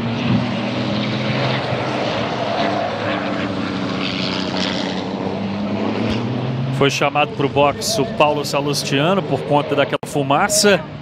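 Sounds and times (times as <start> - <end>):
diesel truck engines racing: 0.0 - 11.0.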